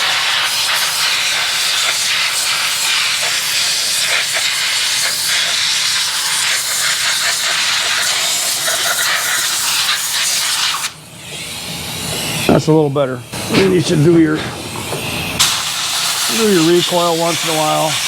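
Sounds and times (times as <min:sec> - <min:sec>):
compressed air gun hissing: 0:00.0 - 0:18.0.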